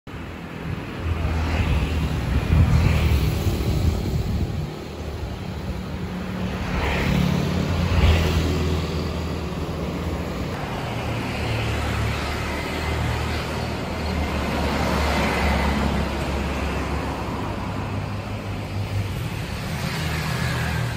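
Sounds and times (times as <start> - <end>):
rumble of passing vehicles: 0.1 - 20.9.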